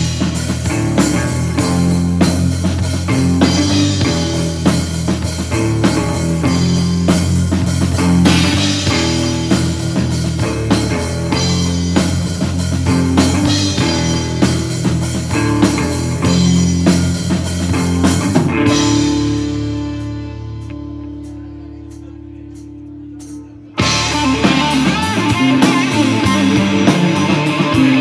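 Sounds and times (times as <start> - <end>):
bass guitar: 0.0 - 28.0
drum kit: 0.0 - 28.0
electric guitar: 0.0 - 28.0.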